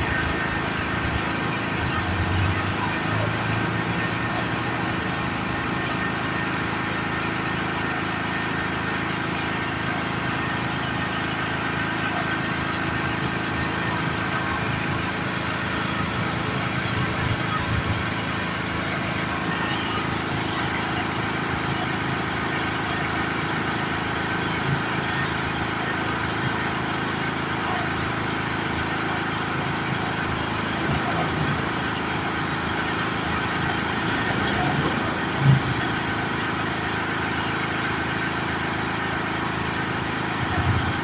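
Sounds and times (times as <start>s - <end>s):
power generator running: 0.0s - 41.0s.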